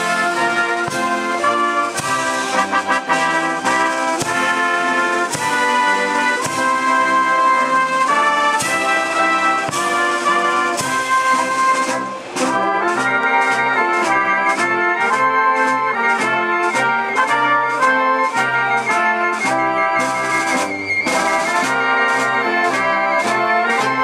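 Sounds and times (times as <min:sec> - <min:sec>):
drum strokes: 0:00.0 - 0:24.0
military concert band playing: 0:00.0 - 0:24.0.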